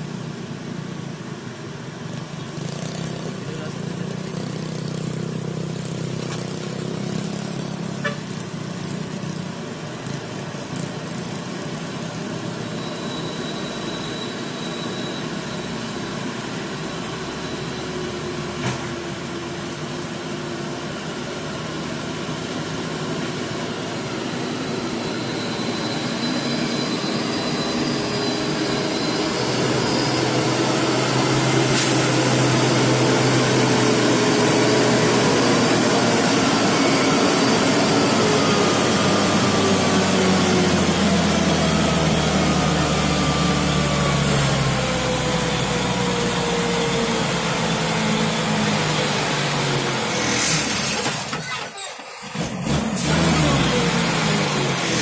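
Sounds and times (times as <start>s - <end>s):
truck diesel engine running: 0.0s - 50.9s.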